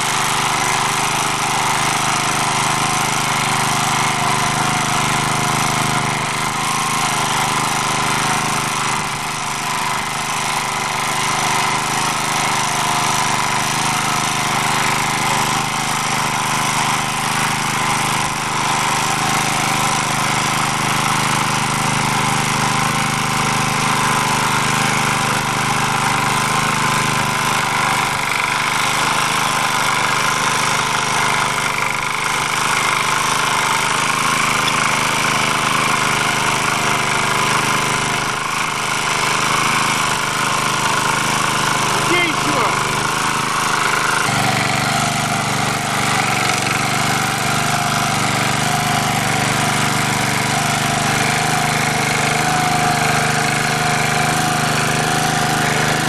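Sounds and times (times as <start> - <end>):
rotary tiller working soil: 0.0 - 56.0
tractor engine running: 0.0 - 56.0.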